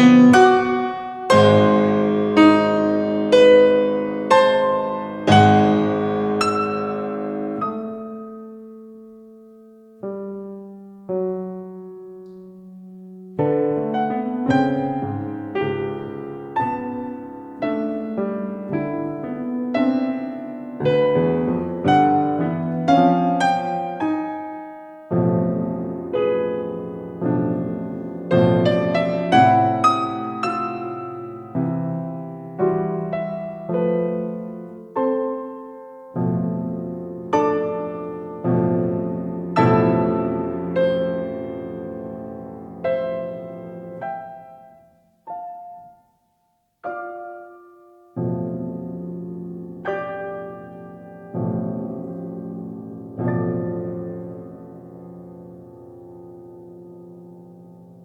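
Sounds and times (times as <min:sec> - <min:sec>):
piano chords and notes: 0:00.0 - 0:58.0.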